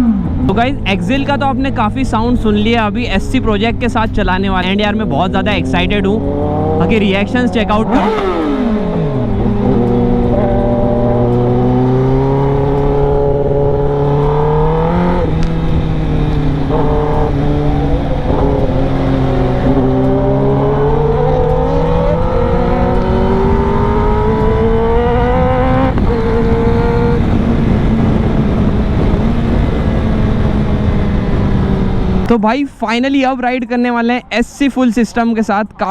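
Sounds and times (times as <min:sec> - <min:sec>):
motorcycle engine revving: 0:00.0 - 0:32.3.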